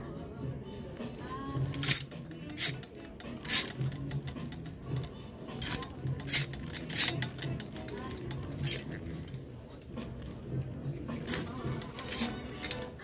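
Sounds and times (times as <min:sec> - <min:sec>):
faint background music: 0:00.0 - 0:13.0
voices: 0:00.0 - 0:13.0.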